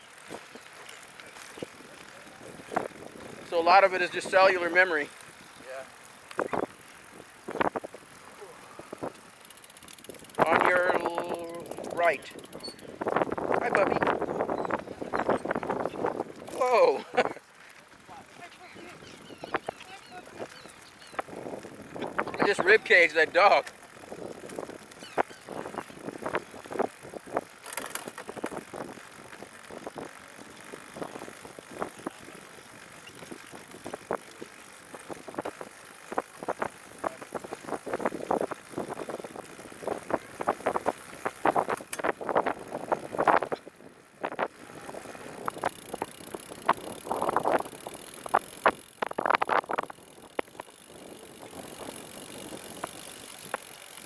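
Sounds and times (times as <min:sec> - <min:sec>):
trike rattling and clicking: 0:08.9 - 0:54.0.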